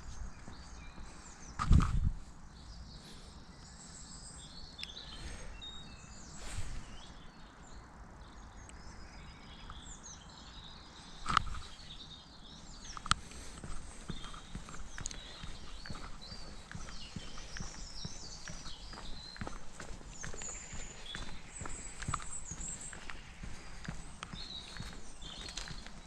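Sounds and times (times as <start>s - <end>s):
outdoor background hiss: 0.0s - 26.0s
small birds chirping: 0.0s - 26.0s.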